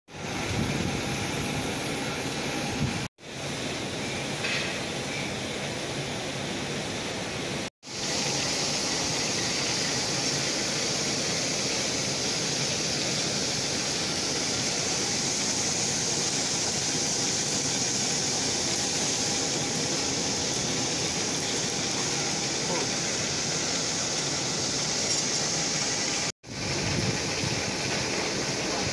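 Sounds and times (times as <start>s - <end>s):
steady high hiss: 0.2s - 28.9s.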